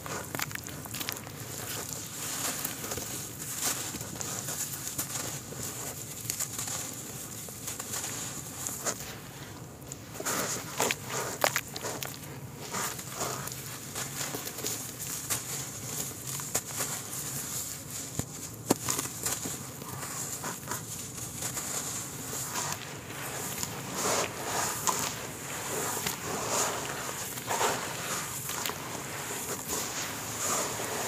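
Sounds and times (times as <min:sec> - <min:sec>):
wet clay squelching in water: 0:00.0 - 0:18.2, 0:18.8 - 0:31.0.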